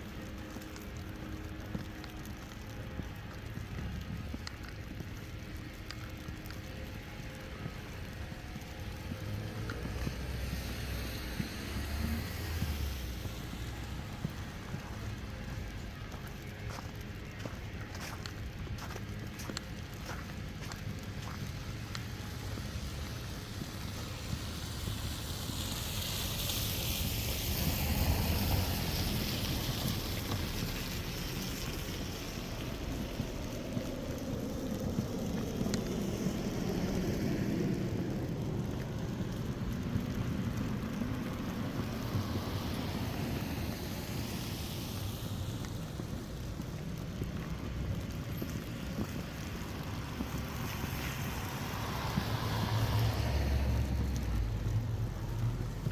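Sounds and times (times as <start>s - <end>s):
cars passing on snowy street: 0.0s - 55.9s.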